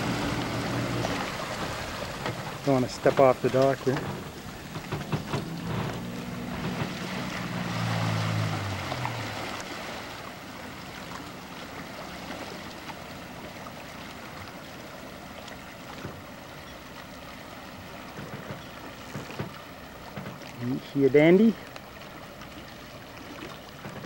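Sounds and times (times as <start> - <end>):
outboard motor running: 0.0 - 24.0
rush of boat wake: 0.0 - 24.0
wash of water: 0.0 - 24.0
wind: 0.0 - 24.0.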